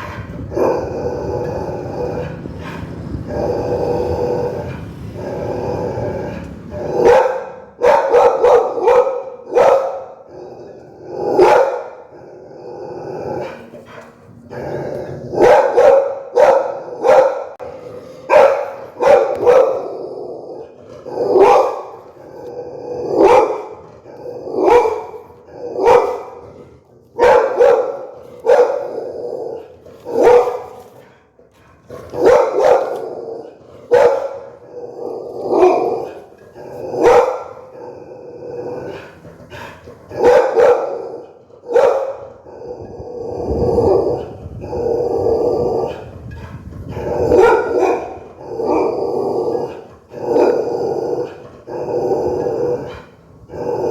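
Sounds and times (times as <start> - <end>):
dog barking fiercely: 0.0 - 12.3, 13.2 - 42.6, 46.9 - 53.9.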